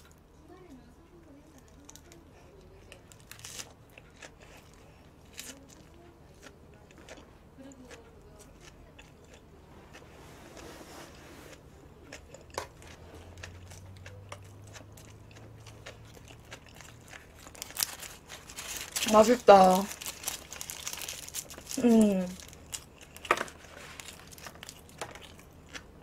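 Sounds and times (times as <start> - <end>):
person chewing food: 1.6 - 19.0, 19.9 - 26.0.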